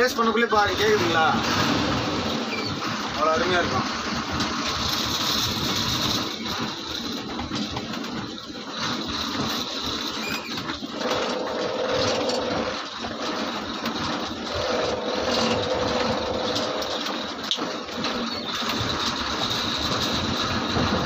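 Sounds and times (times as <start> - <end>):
lorry diesel engine running: 0.0 - 21.0.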